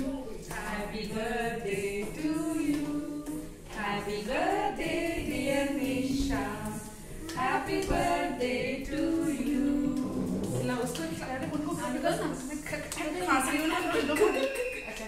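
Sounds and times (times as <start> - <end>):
women singing unaccompanied: 0.0 - 14.3.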